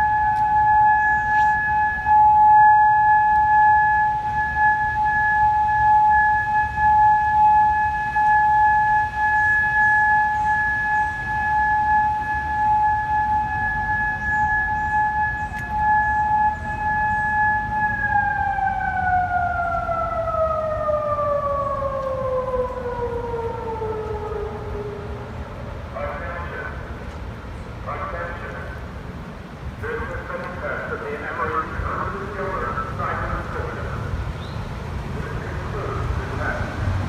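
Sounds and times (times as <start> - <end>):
distant warning siren: 0.0 - 37.0.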